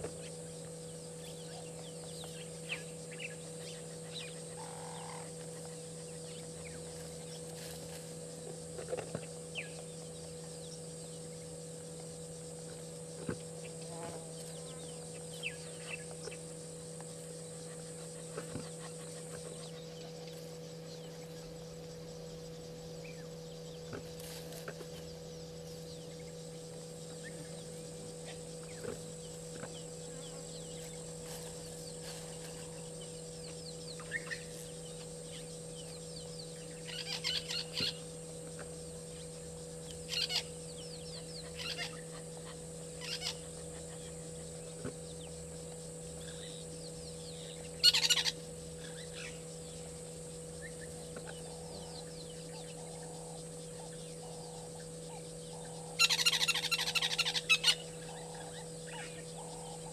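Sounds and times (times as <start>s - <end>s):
birds calling: 0.0s - 59.9s
steady electrical hum: 0.0s - 59.9s.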